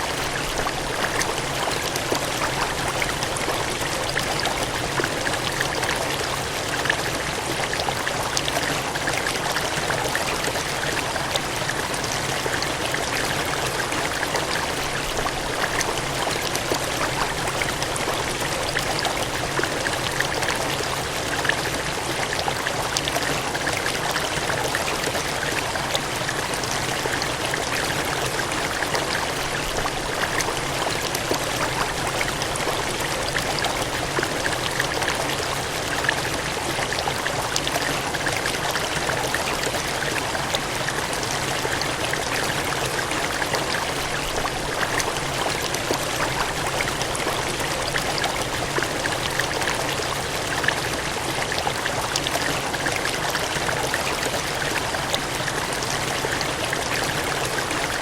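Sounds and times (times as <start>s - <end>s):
water gushing: 0.0s - 58.0s.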